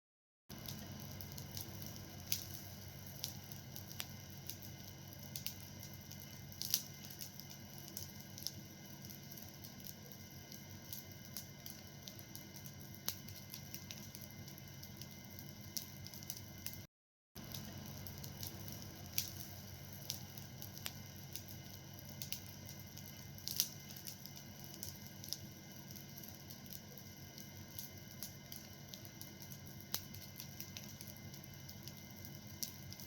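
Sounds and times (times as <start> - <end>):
fire crackling and popping: 0.5 - 33.0.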